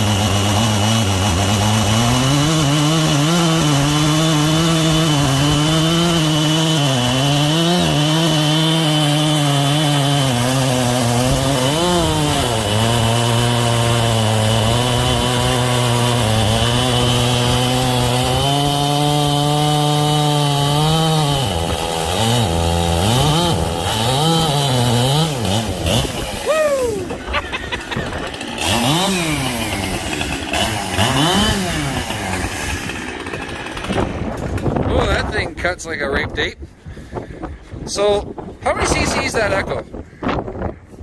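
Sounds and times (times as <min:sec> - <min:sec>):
chainsaw cutting wood: 0:00.0 - 0:36.3.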